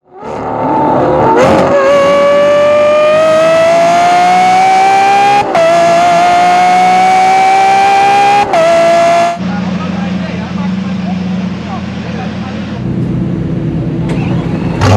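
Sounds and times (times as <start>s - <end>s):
car engine accelerating hard: 0.0s - 14.9s.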